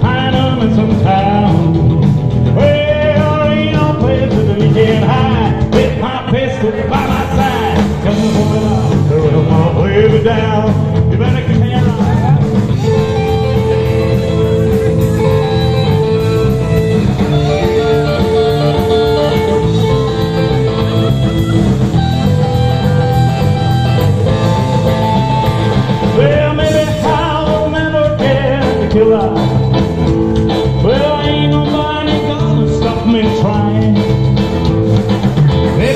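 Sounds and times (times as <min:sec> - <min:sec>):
lead guitar long notes: 0:00.0 - 0:35.9
rock band playing: 0:00.0 - 0:35.9.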